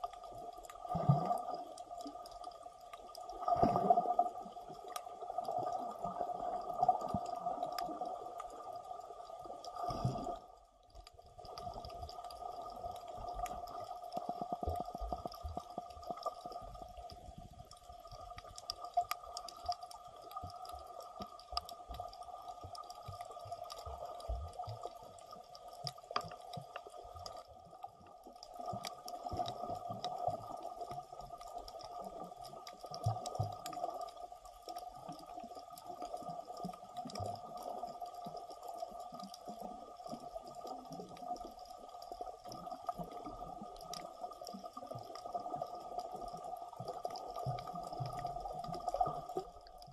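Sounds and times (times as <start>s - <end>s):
small clicks and crackles: 0.0s - 49.9s.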